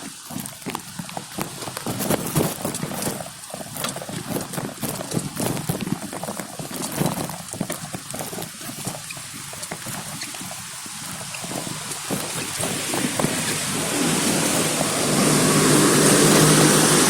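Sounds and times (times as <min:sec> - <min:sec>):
horse hooves clopping: 0:00.0 - 0:17.0
steady rustling hiss: 0:00.0 - 0:17.0.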